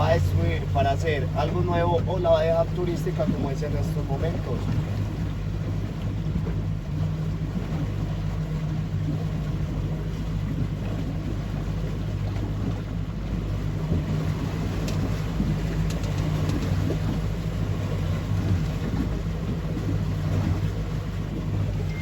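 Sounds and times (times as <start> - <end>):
boat motor humming: 0.0 - 22.0
water rushing: 0.0 - 22.0.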